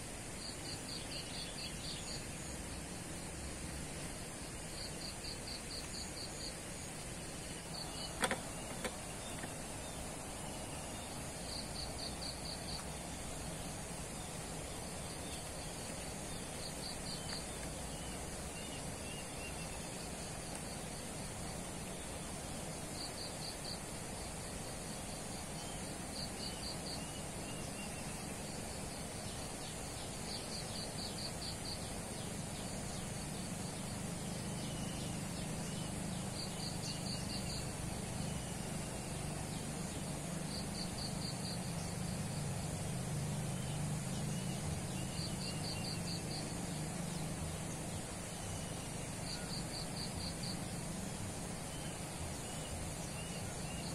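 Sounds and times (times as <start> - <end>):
insect chirping in rapid pulses: 0.0 - 53.9
steady hiss: 0.0 - 53.9.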